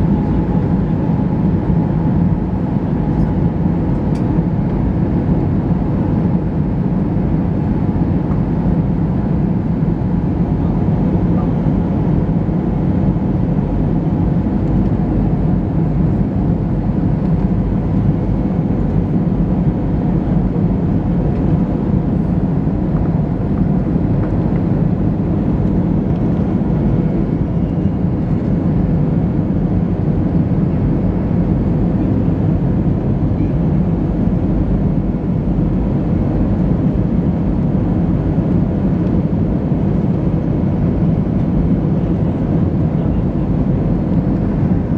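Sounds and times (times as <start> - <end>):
airplane engine drone: 0.0 - 44.9.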